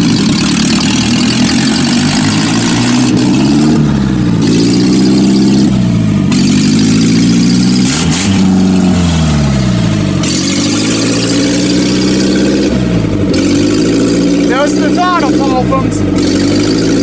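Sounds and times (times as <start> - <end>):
car engine changing gears: 0.0 - 17.0.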